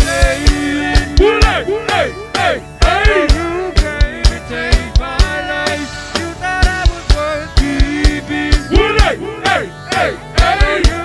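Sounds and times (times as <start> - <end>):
drum kit beat: 0.0 - 11.0.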